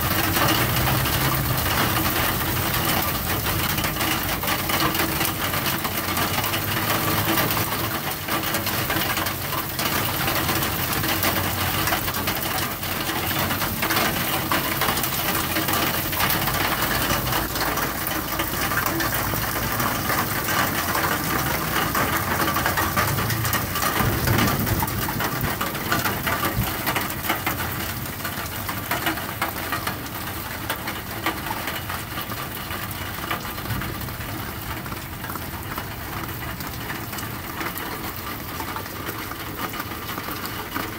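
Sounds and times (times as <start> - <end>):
rain and hail on wood: 0.0 - 40.9.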